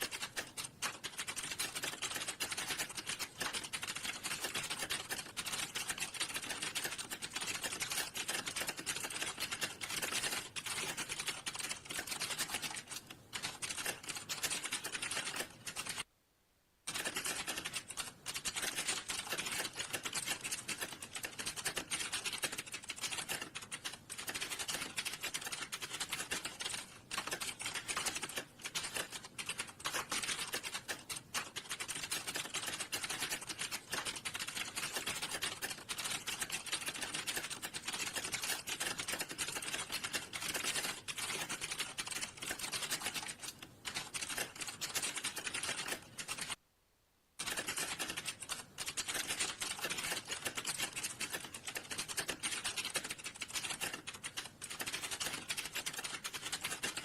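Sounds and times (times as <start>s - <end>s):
typing on computer keyboard: 0.0s - 16.1s, 16.9s - 46.6s, 47.4s - 57.0s.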